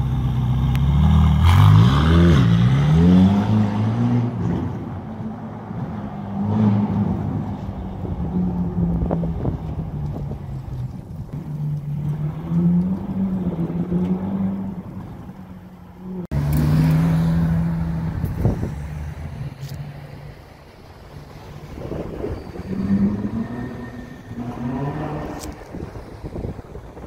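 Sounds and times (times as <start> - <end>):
car driving off: 0.0 - 27.0
car engines revving: 0.0 - 27.0.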